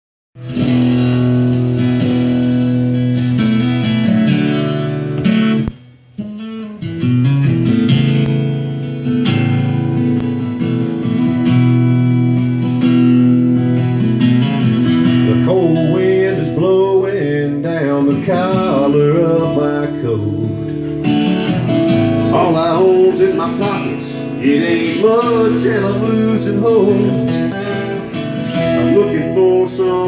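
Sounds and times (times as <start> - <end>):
live country band playing: 0.4 - 30.0
strummed acoustic guitar: 0.4 - 30.0.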